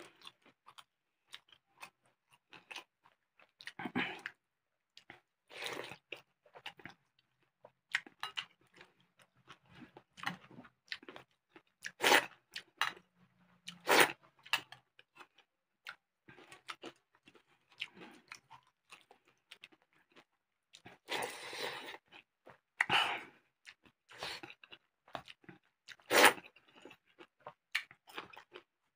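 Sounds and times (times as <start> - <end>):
person chewing crunchy food: 0.0 - 4.4, 5.0 - 13.0, 13.6 - 28.8.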